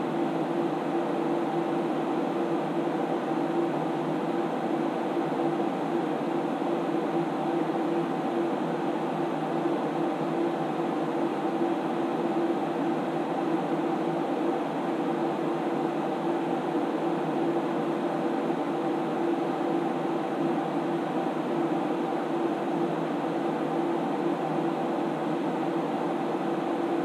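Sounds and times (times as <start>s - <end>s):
cooling fans whirring: 0.0s - 27.0s.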